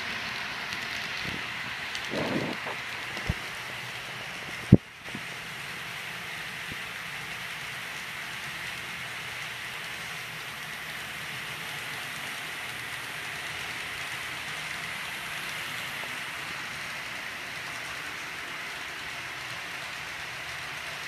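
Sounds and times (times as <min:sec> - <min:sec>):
model trains whirring on track: 0:00.0 - 0:21.0.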